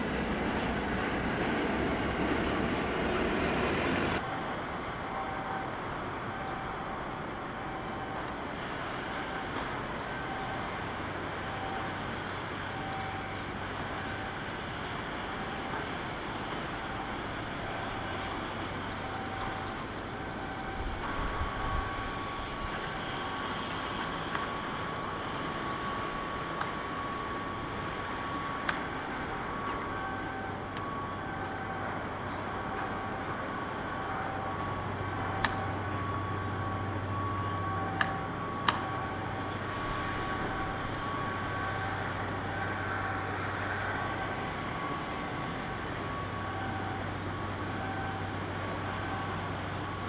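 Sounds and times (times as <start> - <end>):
outdoor machinery noise: 0.0 - 50.0.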